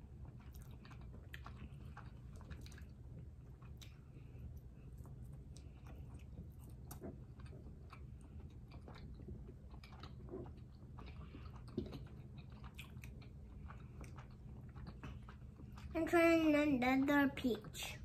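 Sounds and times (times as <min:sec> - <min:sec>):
person chewing fruit: 0:00.0 - 0:16.2.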